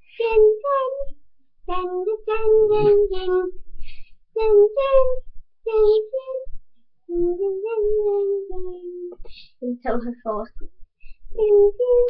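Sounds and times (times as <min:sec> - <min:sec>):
girl singing: 0:00.0 - 0:03.6, 0:04.4 - 0:09.8, 0:11.3 - 0:12.0.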